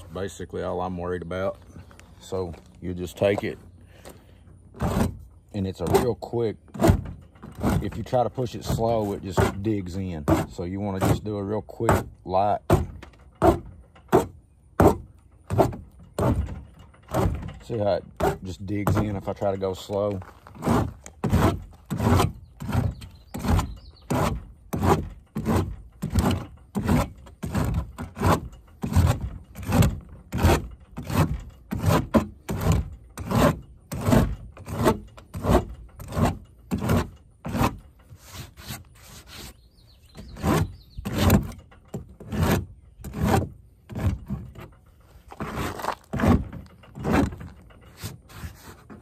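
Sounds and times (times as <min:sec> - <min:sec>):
hand rasp scraping plastic: 0:00.0 - 0:49.0.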